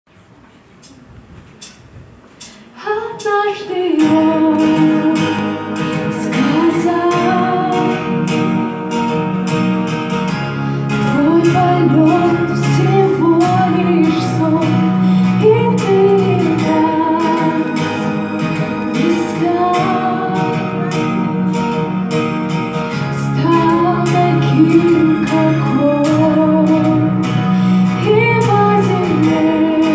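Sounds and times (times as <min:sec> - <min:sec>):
woman singing: 0:02.8 - 0:09.3, 0:10.9 - 0:21.8, 0:22.9 - 0:29.9
strummed acoustic guitar: 0:03.2 - 0:29.9.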